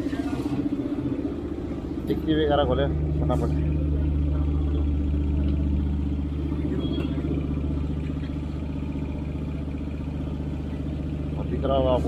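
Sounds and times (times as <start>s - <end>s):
pulsing motor hum: 0.0s - 12.0s.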